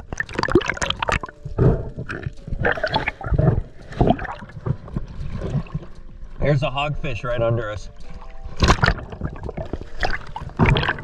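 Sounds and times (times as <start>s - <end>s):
seawater sloshing and gurgling: 0.0s - 6.5s, 7.9s - 11.0s.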